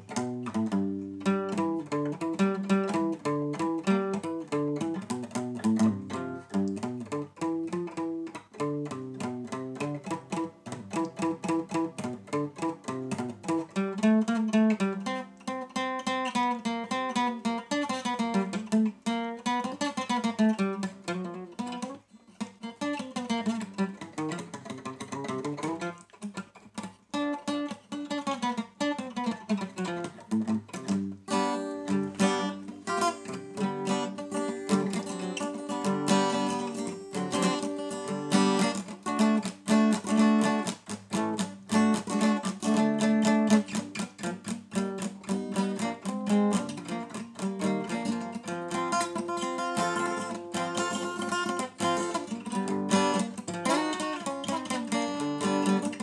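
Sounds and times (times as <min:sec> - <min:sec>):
acoustic guitar picking and strumming: 0:00.0 - 0:56.0.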